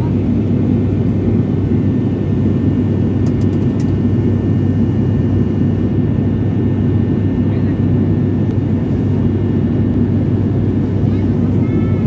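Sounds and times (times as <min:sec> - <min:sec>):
airliner engines droning: 0:00.0 - 0:12.0.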